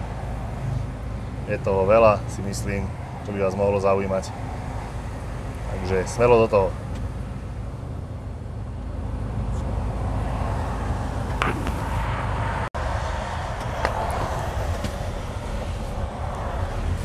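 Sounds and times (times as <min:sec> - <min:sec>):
truck diesel engine running: 0:00.0 - 0:12.5, 0:13.1 - 0:17.0.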